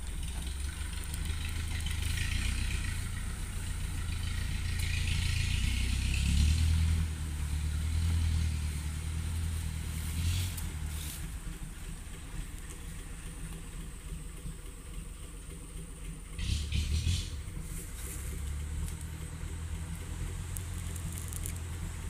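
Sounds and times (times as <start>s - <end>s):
engine droning under load: 0.0s - 22.0s.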